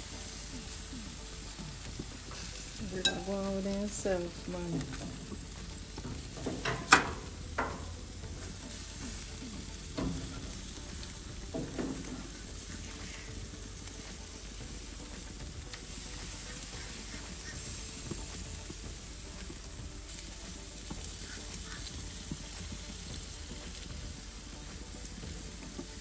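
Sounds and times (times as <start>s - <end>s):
chicken sizzling: 0.0s - 26.0s.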